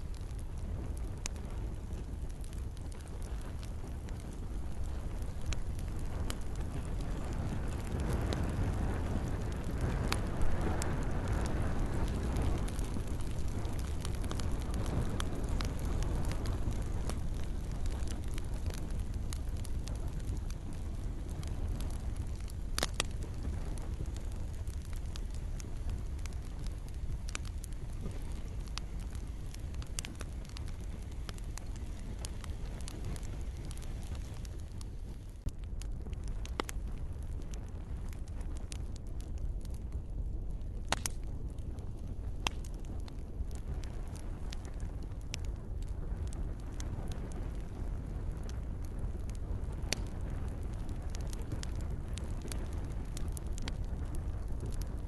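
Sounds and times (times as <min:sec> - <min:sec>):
campfire crackling and popping: 0:00.0 - 0:55.0
soft hiss of rain: 0:00.0 - 0:55.0.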